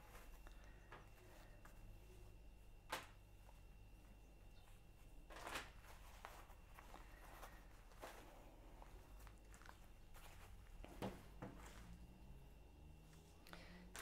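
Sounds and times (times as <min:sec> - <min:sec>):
corset rustling: 0:00.0 - 0:14.0.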